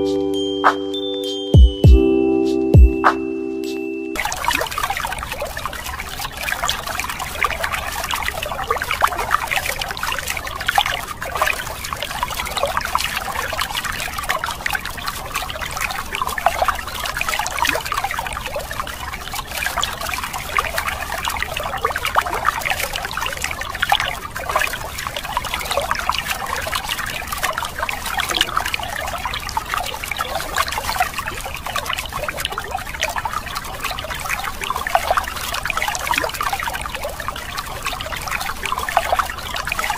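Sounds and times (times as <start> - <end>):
water splashing on plastic toys: 4.2 - 39.9.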